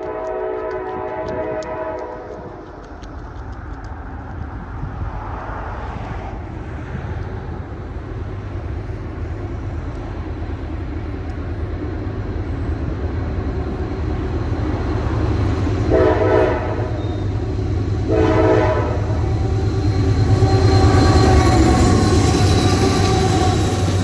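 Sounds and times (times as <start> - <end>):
train rumbling by: 0.0 - 24.0.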